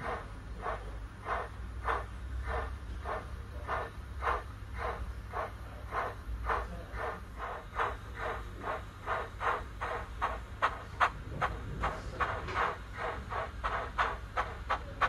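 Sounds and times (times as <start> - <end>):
low hum: 0.0 - 15.0
recorded steam exhaust chuffs: 0.0 - 15.0.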